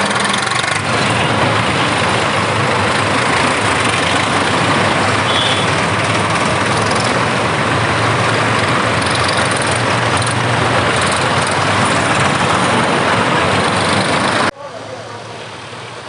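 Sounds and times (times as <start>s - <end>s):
tractor engines running: 0.0s - 16.0s.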